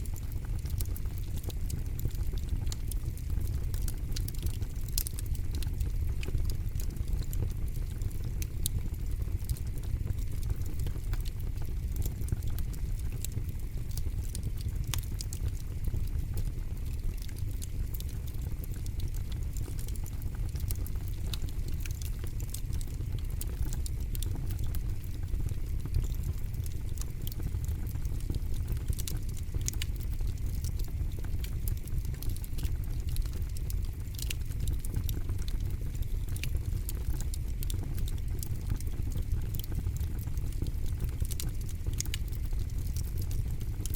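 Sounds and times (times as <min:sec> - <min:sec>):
burning wood crackling and popping: 0:00.0 - 0:43.9
low rumble of flames: 0:00.0 - 0:43.9.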